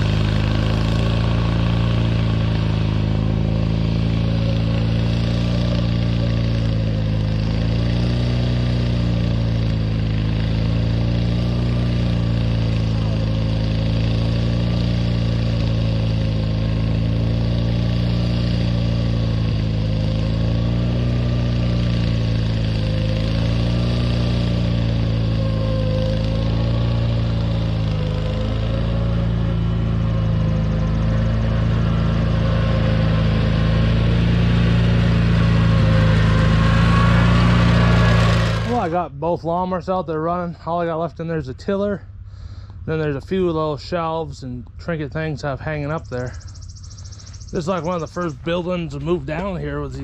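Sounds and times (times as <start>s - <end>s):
lawn mower engine idling: 0.0s - 40.8s, 42.1s - 50.0s.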